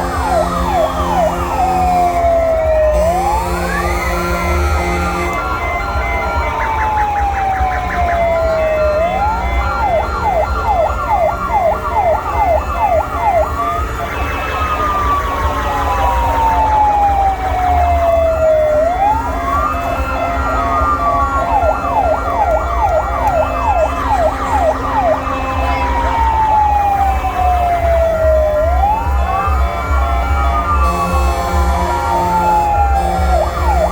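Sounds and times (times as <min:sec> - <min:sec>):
fire engine sirens wailing: 0:00.0 - 0:33.9.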